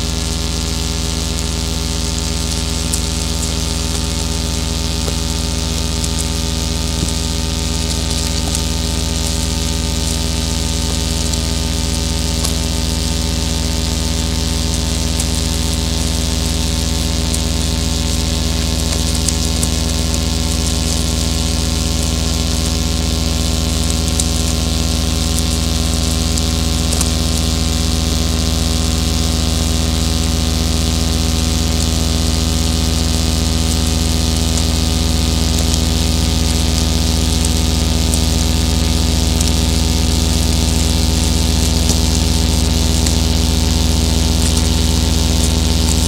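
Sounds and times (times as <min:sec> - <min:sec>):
faint crackles: 0:00.0 - 0:46.0
synthesizer drone: 0:00.0 - 0:46.0.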